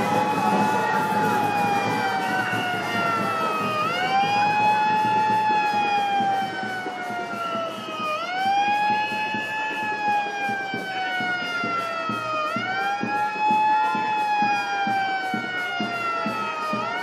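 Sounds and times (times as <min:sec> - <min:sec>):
emergency siren wailing: 0:00.0 - 0:17.0
street and crowd noise: 0:00.0 - 0:17.0.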